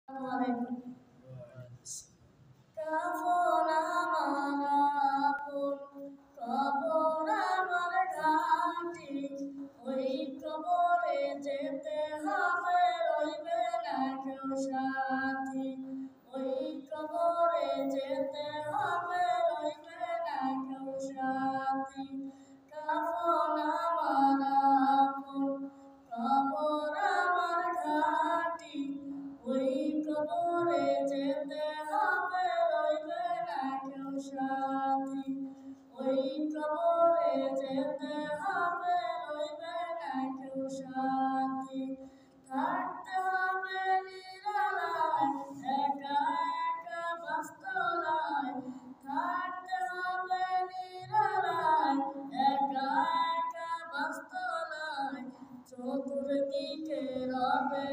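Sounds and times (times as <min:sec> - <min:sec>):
boy singing unaccompanied: 0:02.8 - 0:57.9.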